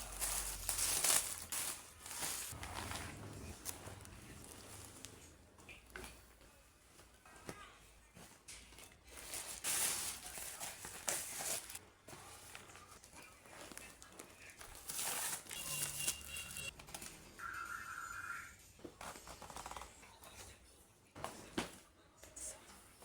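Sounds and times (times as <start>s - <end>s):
crinkling and rustling: 0.0s - 17.4s, 18.8s - 23.0s.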